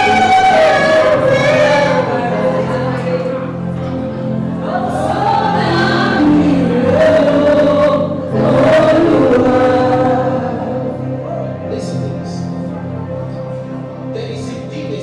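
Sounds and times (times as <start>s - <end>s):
gospel choir singing: 0.0s - 15.0s
sustained chords: 0.0s - 15.0s.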